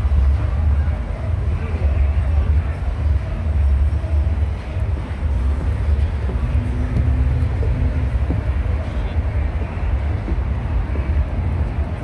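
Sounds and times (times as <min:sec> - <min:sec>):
faint voices of passers-by: 0:00.0 - 0:12.0
traffic rumble: 0:00.0 - 0:12.0.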